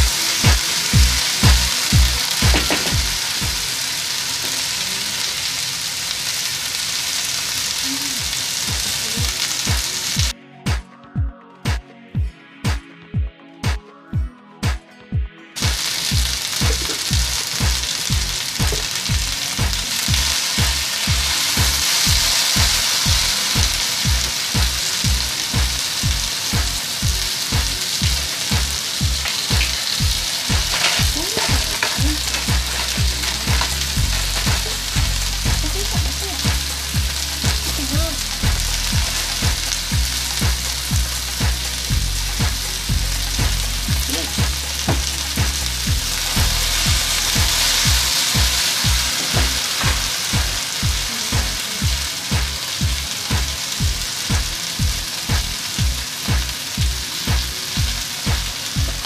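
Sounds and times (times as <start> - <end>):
steady low beat: 0.0 - 3.7, 8.7 - 59.0
vegetables sizzling in a wok: 0.0 - 10.3, 15.6 - 59.0.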